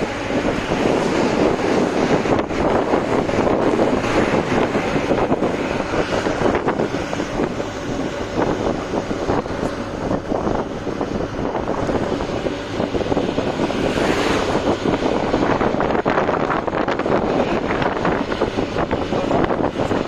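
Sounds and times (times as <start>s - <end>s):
truck road and engine noise: 0.0s - 20.0s
wind buffeting microphone: 0.0s - 20.0s.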